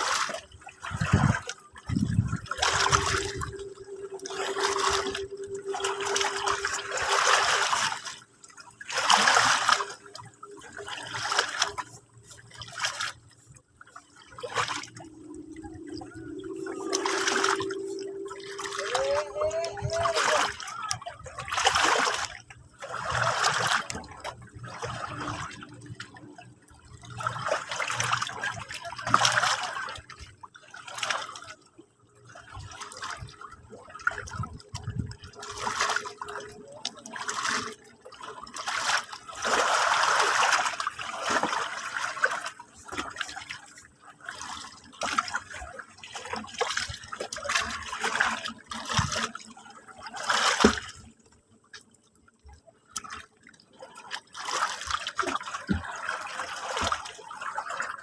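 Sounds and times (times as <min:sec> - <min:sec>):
sea water lapping at shore: 0:00.0 - 0:58.0.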